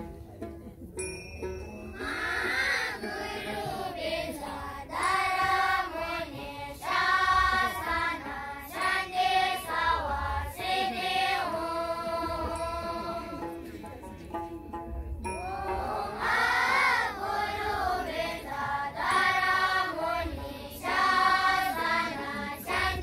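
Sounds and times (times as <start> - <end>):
young voices singing in unison: 2.0 - 13.7, 15.4 - 23.0.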